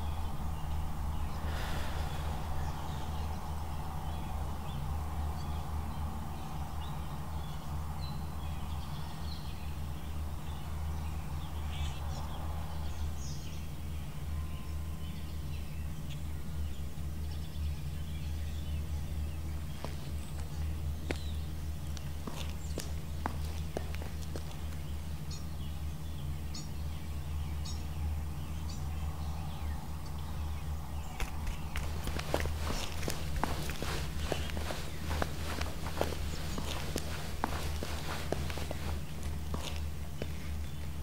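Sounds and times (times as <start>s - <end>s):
low rumble with hiss: 0.0s - 41.0s.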